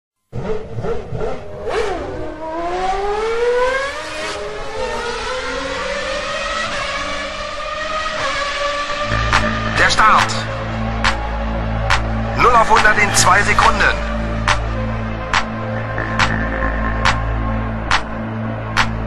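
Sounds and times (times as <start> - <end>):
racing car engine revving: 0.3 - 19.0.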